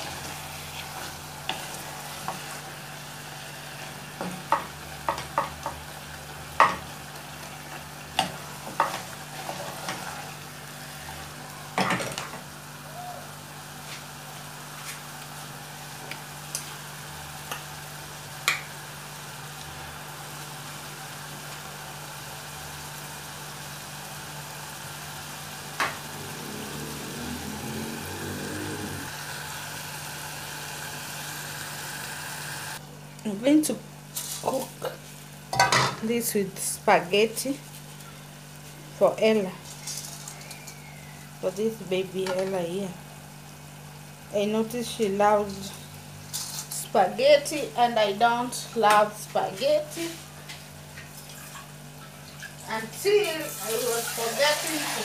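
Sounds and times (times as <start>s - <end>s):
stew sizzling in a saucepan: 0.0s - 55.0s.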